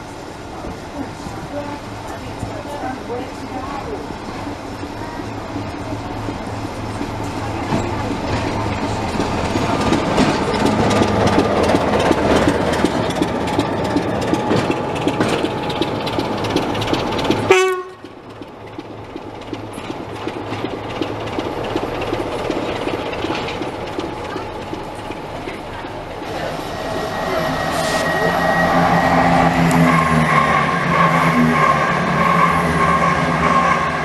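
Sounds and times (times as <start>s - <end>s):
train wheels rattling on track: 0.0s - 34.0s.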